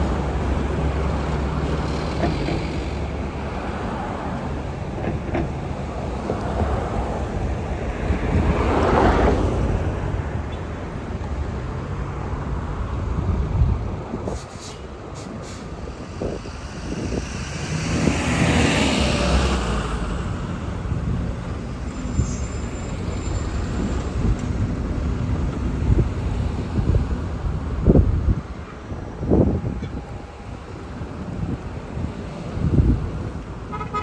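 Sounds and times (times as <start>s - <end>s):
buses and traffic rumbling: 0.0s - 34.0s.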